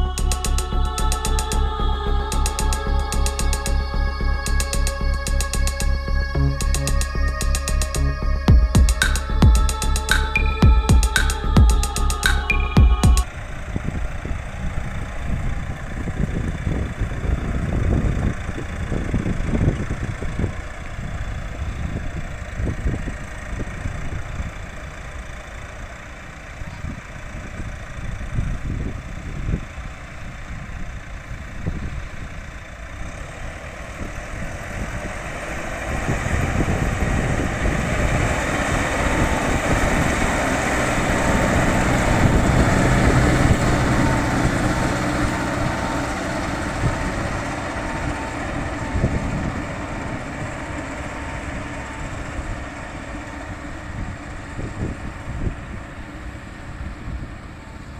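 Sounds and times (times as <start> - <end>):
tractor diesel engine under load: 0.0 - 8.6, 9.2 - 57.9.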